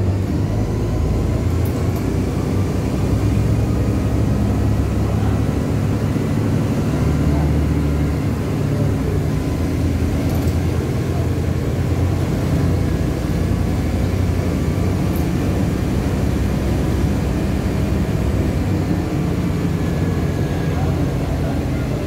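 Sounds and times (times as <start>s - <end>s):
bus diesel engine droning: 0.0s - 22.0s.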